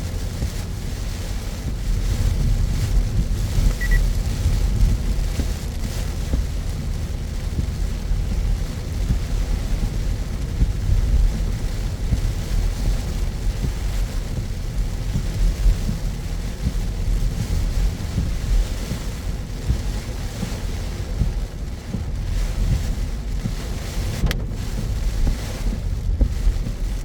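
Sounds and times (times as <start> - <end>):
low road rumble: 0.0 - 27.0
rain and tyres on wet pavement: 0.0 - 27.0.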